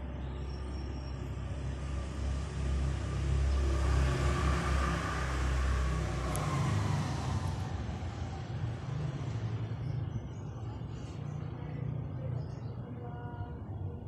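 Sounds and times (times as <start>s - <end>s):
motor vehicle passing by: 0.8s - 12.4s.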